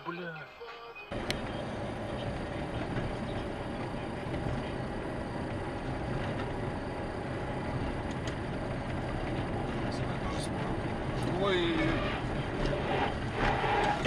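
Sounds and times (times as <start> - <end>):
car road and engine noise: 1.1 - 14.0.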